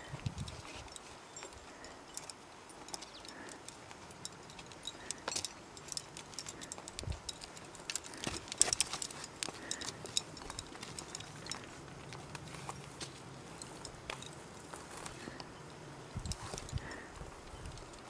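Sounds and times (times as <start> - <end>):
climbing gear clinking: 0.0 - 18.0.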